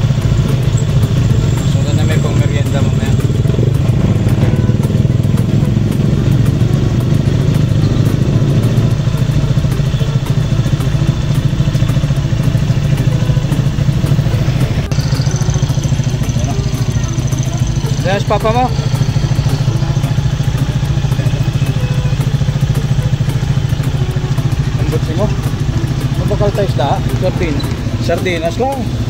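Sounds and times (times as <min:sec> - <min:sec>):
small engine running steadily: 0:00.0 - 0:29.0.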